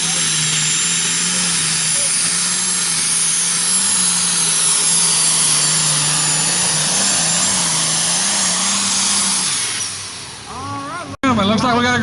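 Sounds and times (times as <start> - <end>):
tractor engine running flat out: 0.0 - 11.4.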